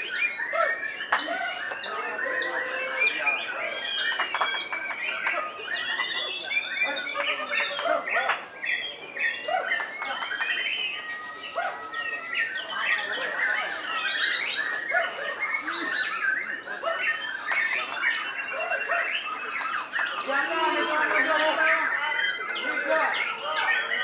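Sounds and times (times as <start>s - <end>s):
caged birds singing: 0.0s - 24.0s
harsh chattering bird calls: 0.0s - 24.0s.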